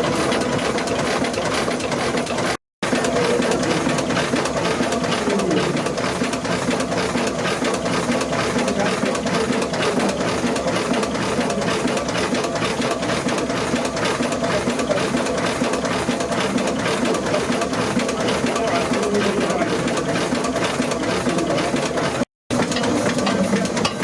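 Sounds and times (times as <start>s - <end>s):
steam engine mechanical chatter: 0.0s - 24.0s.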